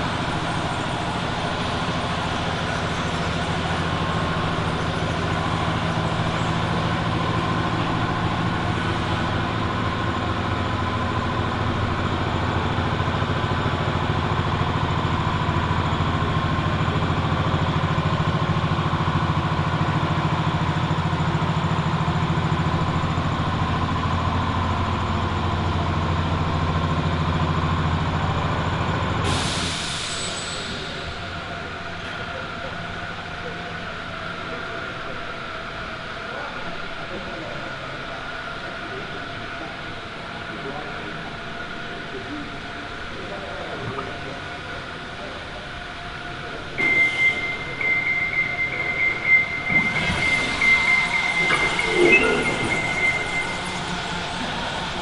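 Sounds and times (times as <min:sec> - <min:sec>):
large engine droning: 0:00.0 - 0:55.0.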